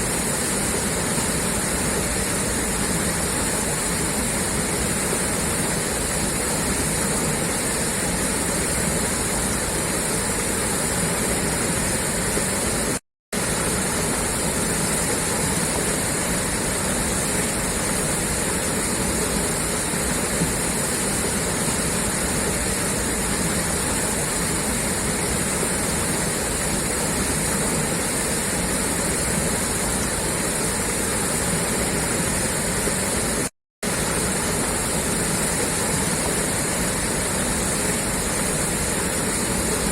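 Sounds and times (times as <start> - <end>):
water gushing from a pipe: 0.0 - 39.9.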